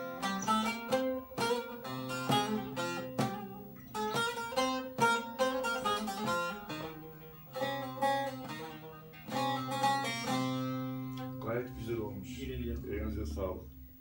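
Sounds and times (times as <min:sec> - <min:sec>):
strummed long-necked lute: 0:00.0 - 0:12.2.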